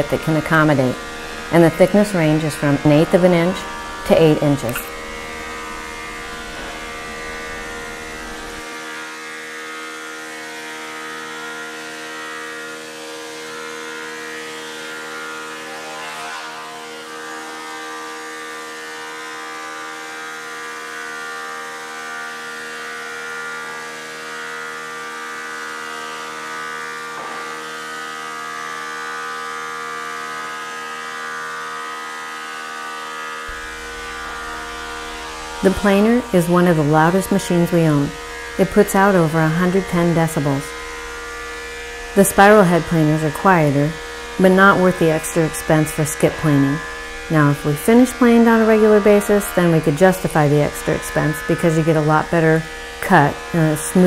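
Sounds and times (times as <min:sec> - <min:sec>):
thickness planer whine: 0:00.0 - 0:54.0.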